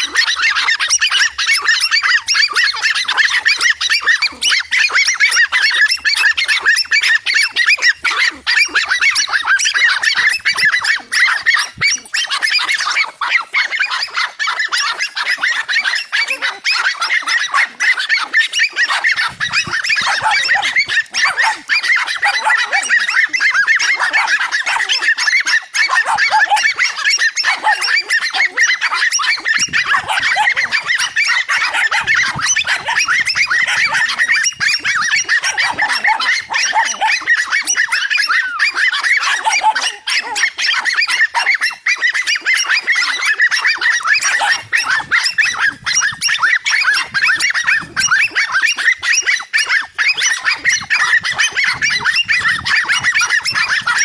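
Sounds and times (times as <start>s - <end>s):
dogs barking and yapping: 0.0s - 54.0s.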